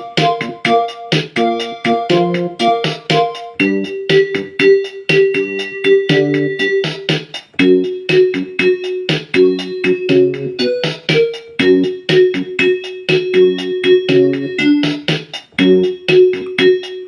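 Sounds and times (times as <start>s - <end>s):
drum machine beat: 0.0s - 17.0s
keyboard chords and bass line: 0.0s - 17.0s.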